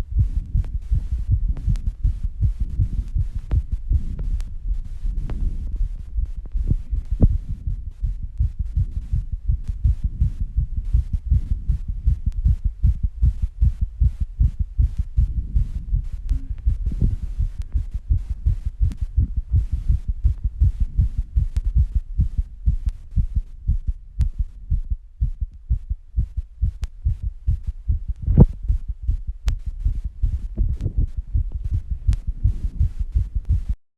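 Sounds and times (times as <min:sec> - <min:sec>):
fast heartbeat thumps: 0:00.0 - 0:33.8.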